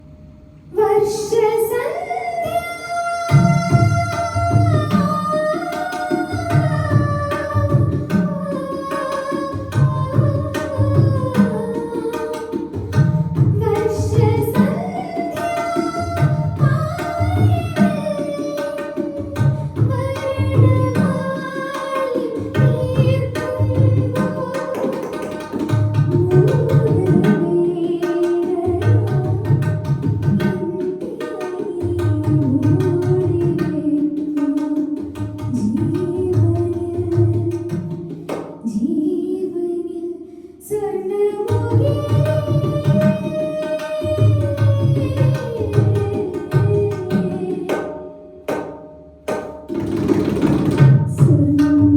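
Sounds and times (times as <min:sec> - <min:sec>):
woman singing: 0:00.7 - 0:38.0, 0:38.6 - 0:48.2, 0:51.0 - 0:51.9
tabla rhythm: 0:01.1 - 0:39.2, 0:41.2 - 0:51.9.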